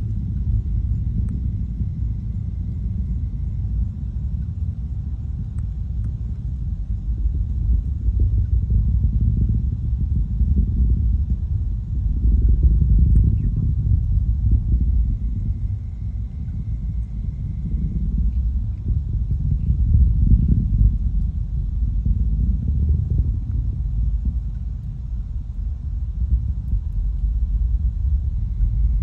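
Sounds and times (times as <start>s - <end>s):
distant rocket launch roar: 0.0s - 29.0s.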